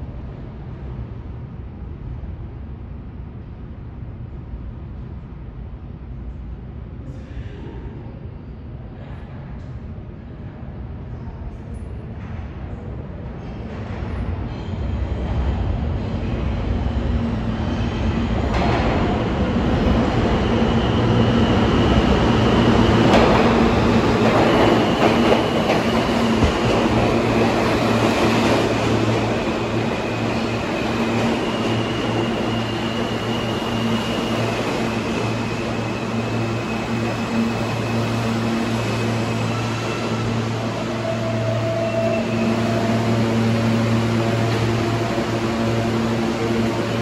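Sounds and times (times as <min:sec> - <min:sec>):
subway train rumbling: 0:00.0 - 0:47.0.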